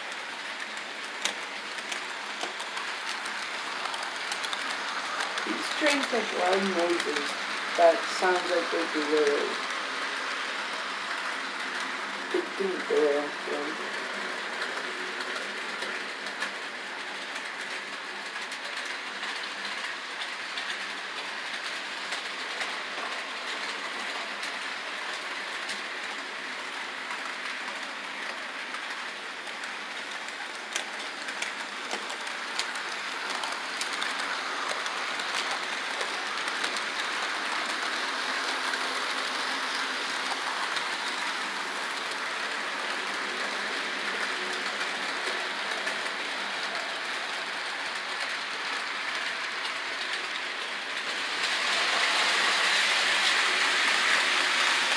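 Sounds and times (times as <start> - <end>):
model train rolling on track: 0.0 - 54.9.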